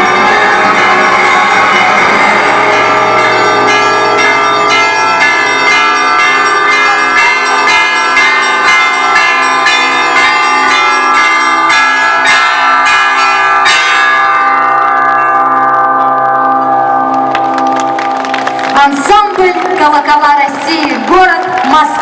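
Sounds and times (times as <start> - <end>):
church bells pealing: 0.0 - 21.8.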